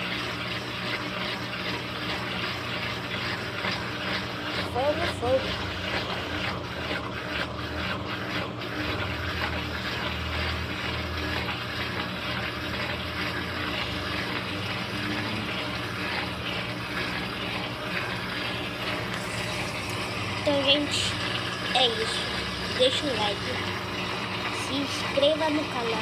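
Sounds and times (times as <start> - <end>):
washing machine filling with water: 0.0 - 26.0.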